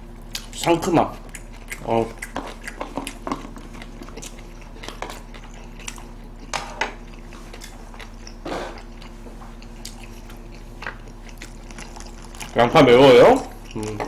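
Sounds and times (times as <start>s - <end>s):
people chewing food: 0.0s - 14.0s.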